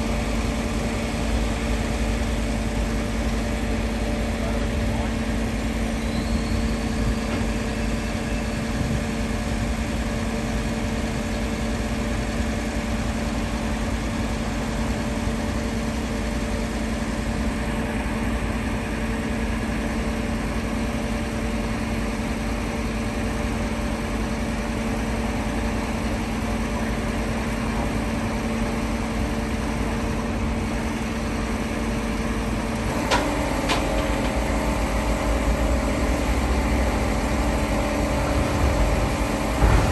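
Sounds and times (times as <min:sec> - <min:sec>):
tow truck engine idling: 0:00.0 - 0:39.9.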